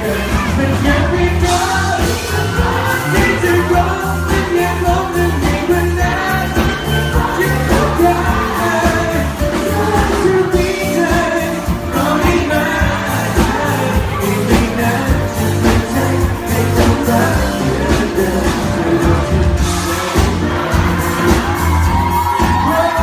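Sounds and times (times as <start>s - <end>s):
live pop band playing: 0.0s - 23.0s
man singing: 0.0s - 23.0s
steady bass line: 0.0s - 23.0s.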